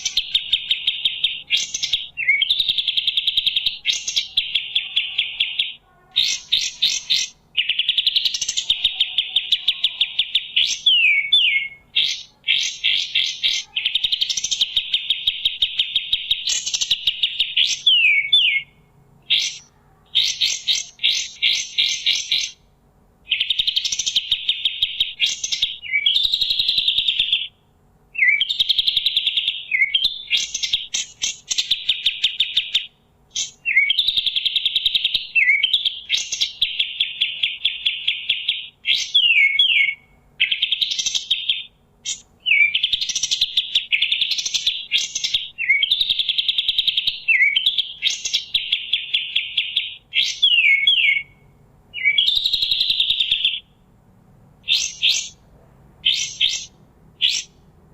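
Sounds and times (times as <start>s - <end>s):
songbird singing: 0.0s - 57.9s.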